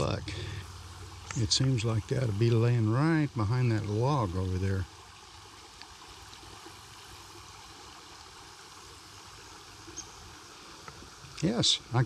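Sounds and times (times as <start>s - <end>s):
creek running over riffle: 0.0s - 12.0s.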